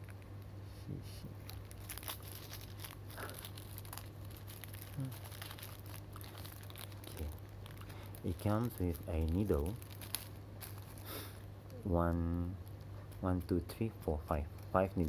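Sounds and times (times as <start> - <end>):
plastic packaging crinkling: 1.4 - 15.0.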